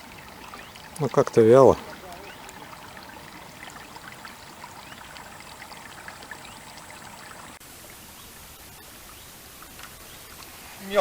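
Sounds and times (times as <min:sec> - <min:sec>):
river water trickling: 0:00.0 - 0:11.0.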